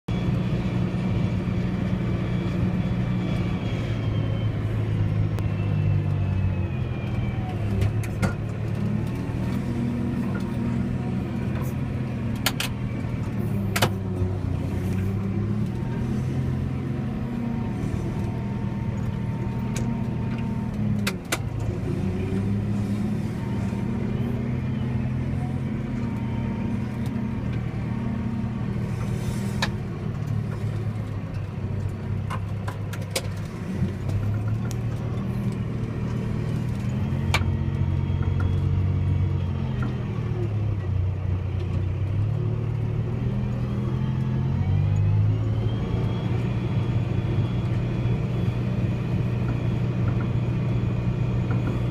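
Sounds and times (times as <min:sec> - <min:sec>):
tractor engine under load: 0:00.1 - 0:51.9.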